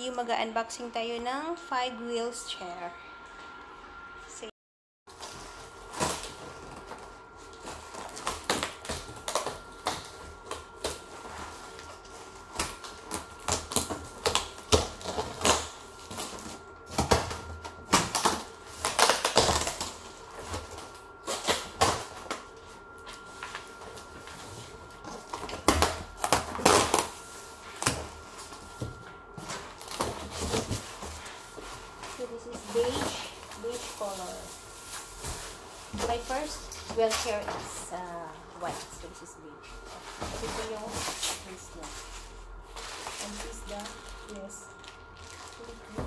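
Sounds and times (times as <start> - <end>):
plastic wrap crinkling: 5.1 - 39.3, 39.9 - 46.0.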